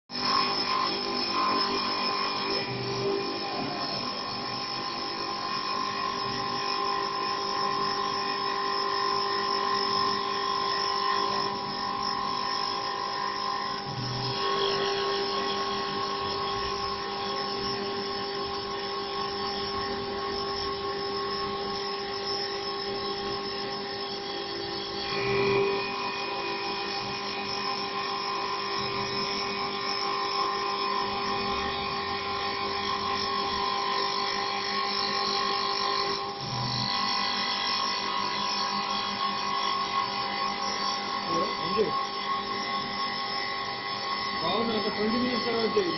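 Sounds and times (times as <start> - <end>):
lathe motors whining: 0.1 - 45.9.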